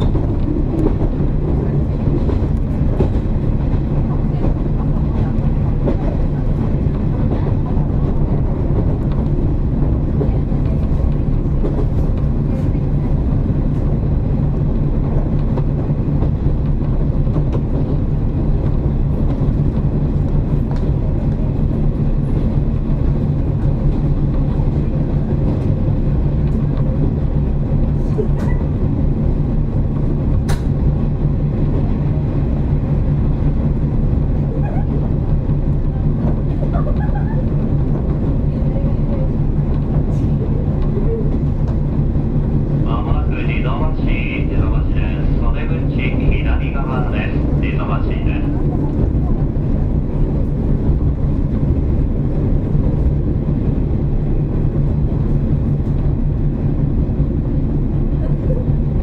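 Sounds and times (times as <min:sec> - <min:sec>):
diesel engine drone: 0:00.0 - 0:59.0
wheels rumbling on track: 0:00.0 - 0:59.0.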